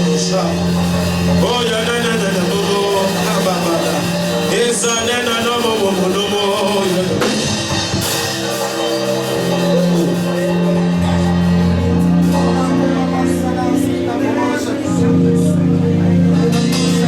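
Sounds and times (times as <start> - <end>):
person singing: 0.0 - 17.0
worship music with held chords: 0.0 - 17.0.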